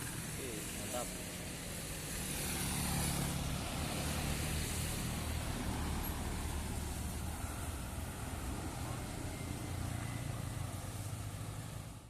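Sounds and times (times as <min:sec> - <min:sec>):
diesel vehicle engine drone: 0:00.0 - 0:12.0
tyre and road noise: 0:00.0 - 0:12.0.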